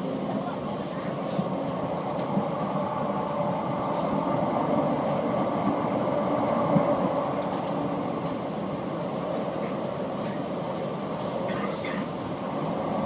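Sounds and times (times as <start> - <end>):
light-rail car rumbling on track: 0.0 - 13.0.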